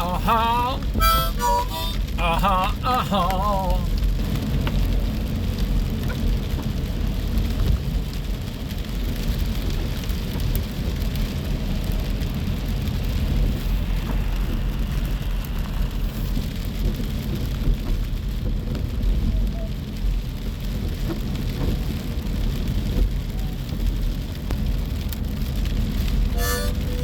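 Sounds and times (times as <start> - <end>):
rain ticks: 0.0 - 27.0.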